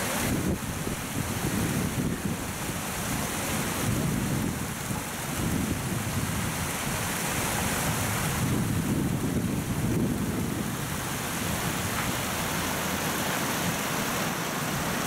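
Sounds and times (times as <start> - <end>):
water rushing over a weir: 0.0 - 15.0.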